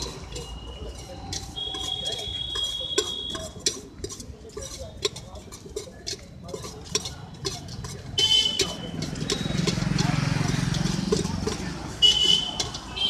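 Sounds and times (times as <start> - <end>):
low hum of street noise: 0.0 - 13.0
metal utensils and bowls clinking: 0.0 - 13.0.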